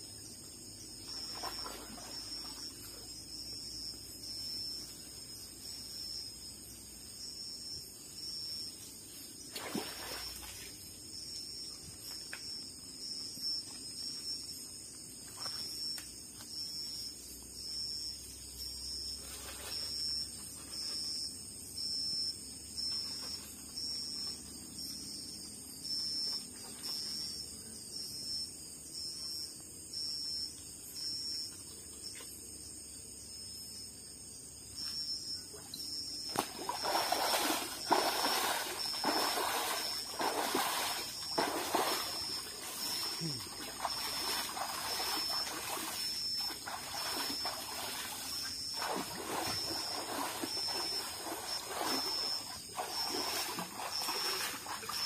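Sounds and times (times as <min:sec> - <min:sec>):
high-pitched insect drone: 0:00.0 - 0:55.0
insects chirping in pulses: 0:00.0 - 0:55.0.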